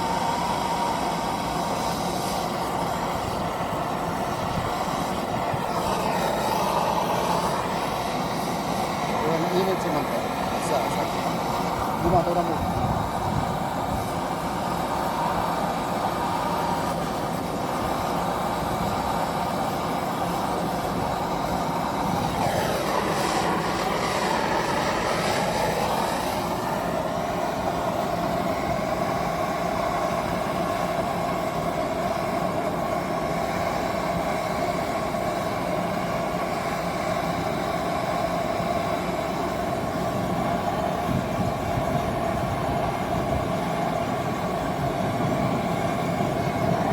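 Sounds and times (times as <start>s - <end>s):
mechanical running noise: 0.0s - 46.9s.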